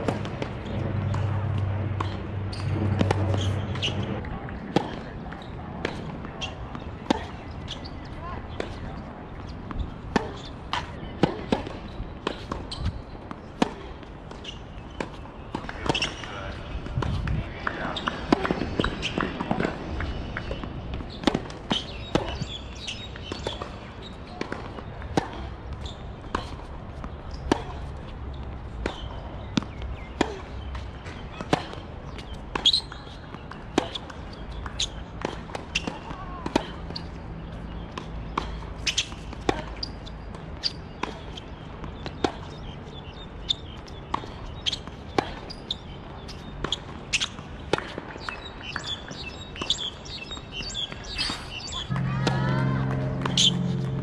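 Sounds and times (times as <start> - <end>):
tennis balls bouncing on court: 0.0 - 54.0
tennis balls hit with racquets: 0.0 - 54.0.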